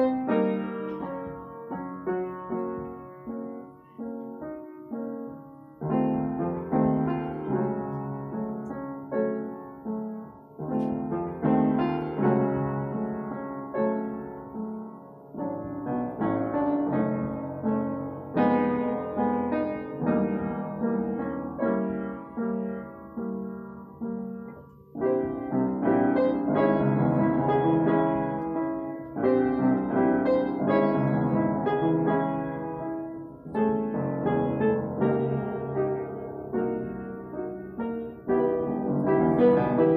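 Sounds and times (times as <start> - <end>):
piano chords: 0.0 - 39.9.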